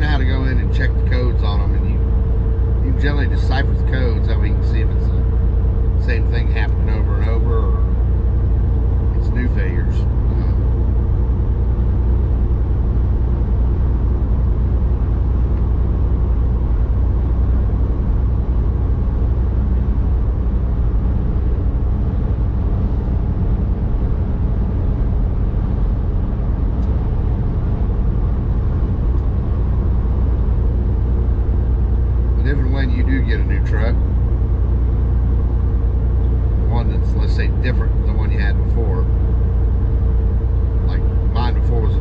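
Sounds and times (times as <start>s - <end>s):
truck diesel engine drone: 0.0s - 42.0s.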